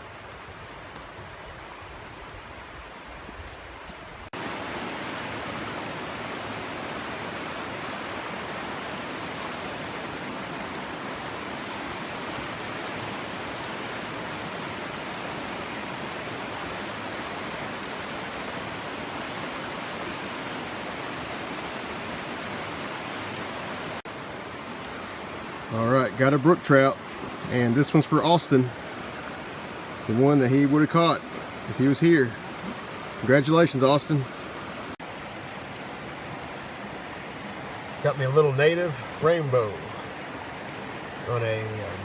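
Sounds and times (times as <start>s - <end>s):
stream water flowing: 0.0s - 42.0s.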